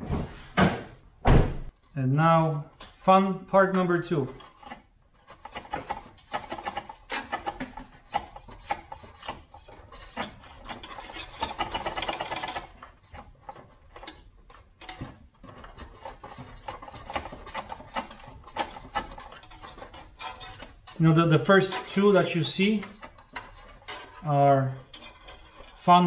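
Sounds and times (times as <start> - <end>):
wire scraping through sheet metal: 1.7 - 26.0.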